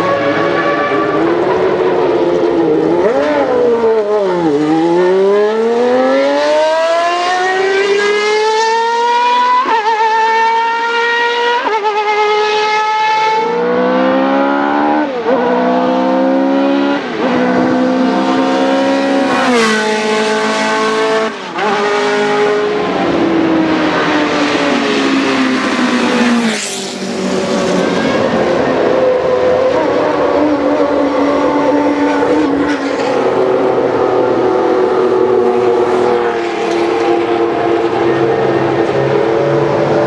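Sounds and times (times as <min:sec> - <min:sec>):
racing car engine at high revs: 0:00.0 - 0:40.0.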